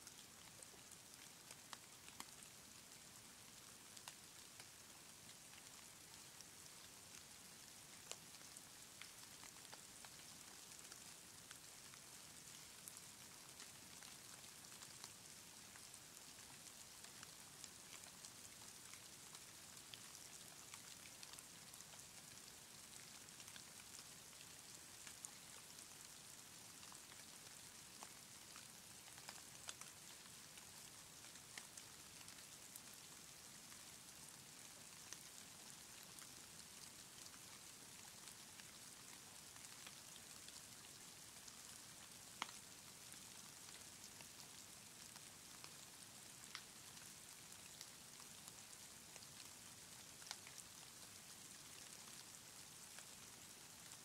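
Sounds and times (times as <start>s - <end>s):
faint hiss of falling snow: 0.0s - 54.0s.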